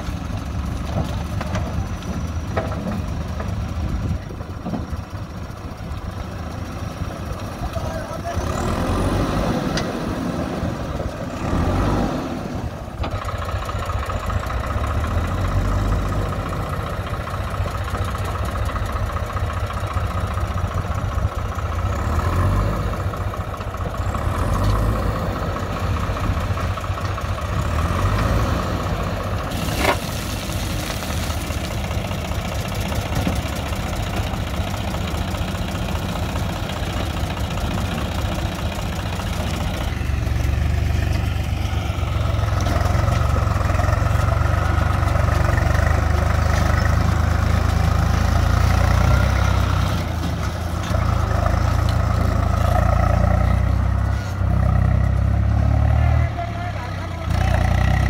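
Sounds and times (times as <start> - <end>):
diesel engines rumbling: 0.0 - 58.0.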